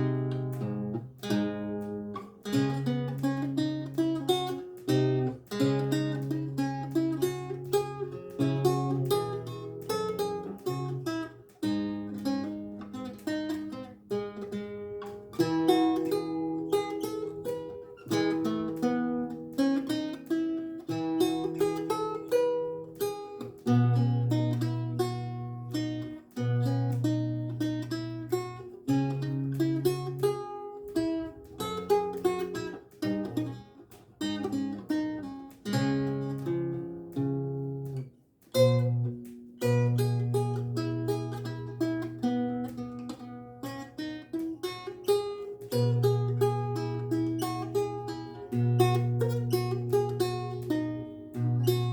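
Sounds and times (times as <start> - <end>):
lute playing chords and melody: 0.0 - 51.9.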